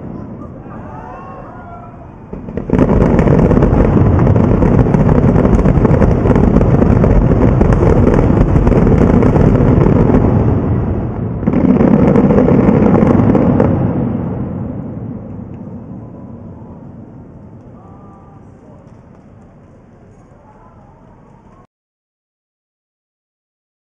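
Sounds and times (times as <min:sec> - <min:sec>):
fireworks crackling barrage: 0:00.0 - 0:21.6.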